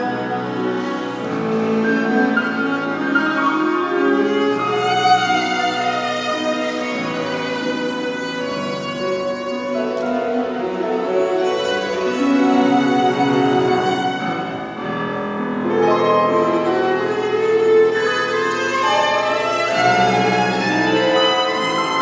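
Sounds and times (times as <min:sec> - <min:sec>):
piano accompaniment: 0:00.0 - 0:22.0
viola melody: 0:00.0 - 0:22.0.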